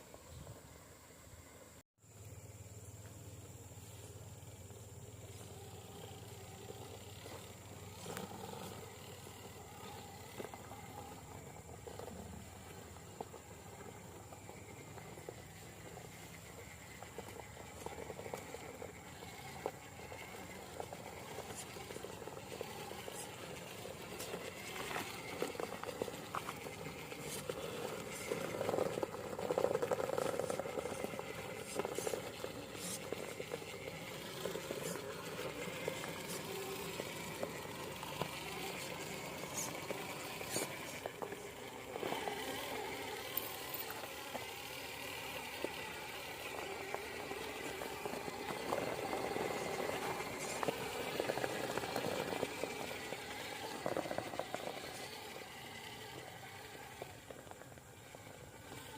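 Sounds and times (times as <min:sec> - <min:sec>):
small motor running: 0:00.0 - 0:58.9
tyres squelching through mud: 0:05.6 - 0:58.9.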